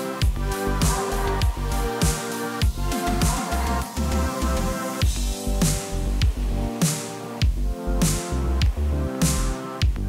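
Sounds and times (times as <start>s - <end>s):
trailer music with held chords: 0.0s - 10.0s.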